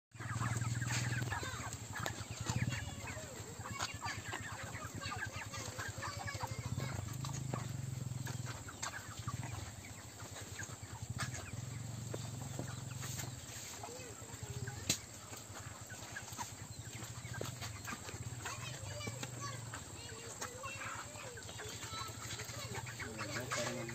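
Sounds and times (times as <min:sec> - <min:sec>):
chickens peeping and clucking: 0:00.1 - 0:23.9.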